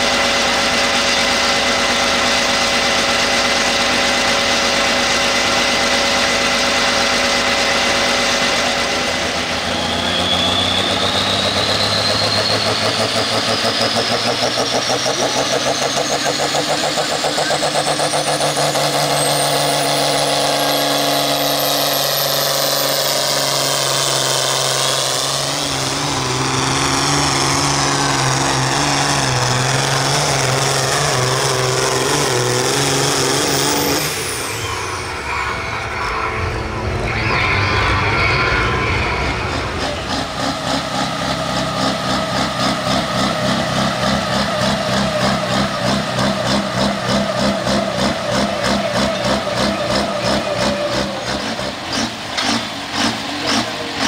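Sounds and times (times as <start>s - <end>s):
high whine rising in pitch: 0.0s - 51.4s
tractor engine running hard: 0.0s - 54.0s.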